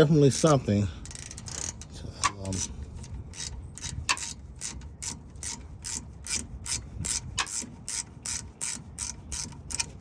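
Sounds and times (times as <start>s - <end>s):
ratchet wrench clicking: 0.0s - 10.0s.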